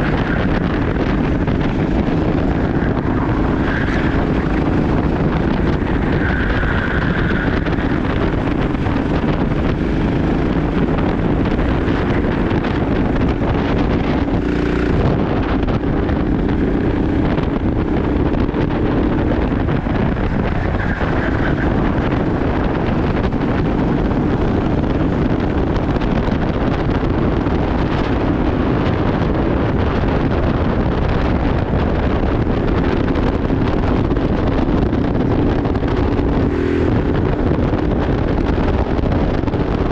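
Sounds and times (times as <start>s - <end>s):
kart engine at race speed: 0.0s - 39.9s
wind buffeting microphone: 0.0s - 39.9s.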